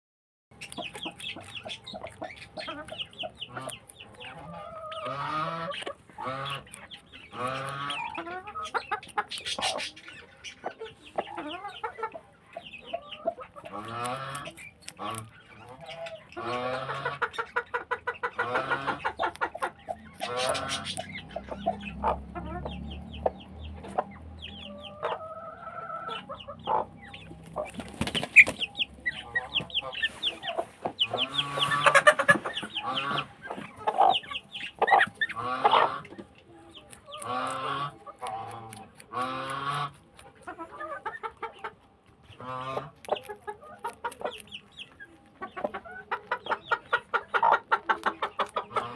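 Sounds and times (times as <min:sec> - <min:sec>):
chickens clucking: 0:00.5 - 0:48.9.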